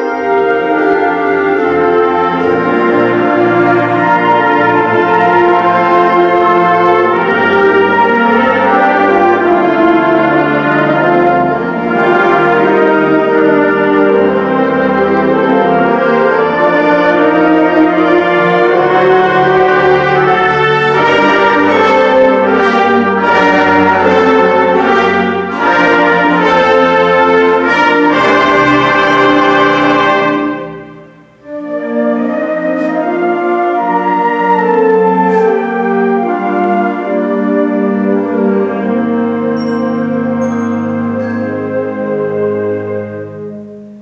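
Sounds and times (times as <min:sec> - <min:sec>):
concert band playing: 0:00.0 - 0:44.0.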